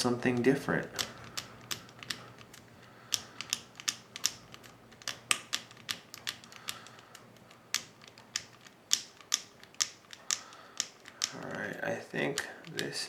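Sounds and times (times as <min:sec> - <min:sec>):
lock dials clicking: 0:00.0 - 0:13.0.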